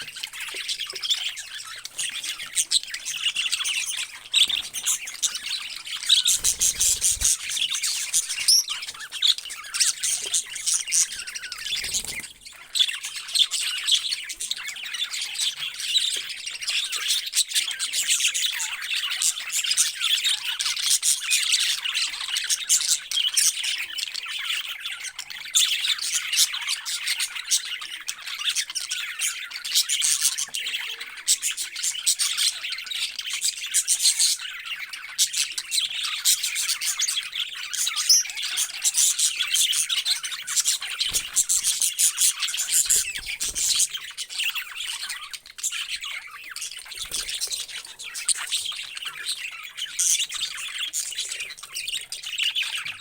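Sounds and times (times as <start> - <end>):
parrots chirping and squawking: 0.0 - 53.0.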